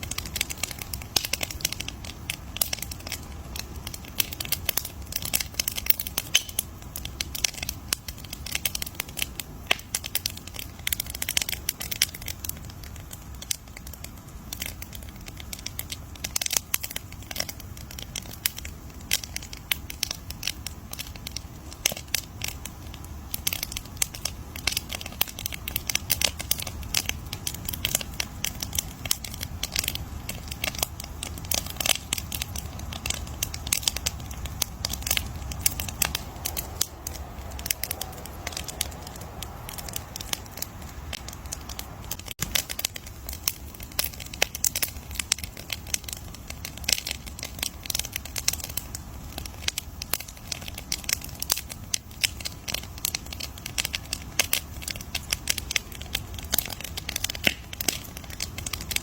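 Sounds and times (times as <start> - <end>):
wood campfire crackling: 0.0 - 59.0.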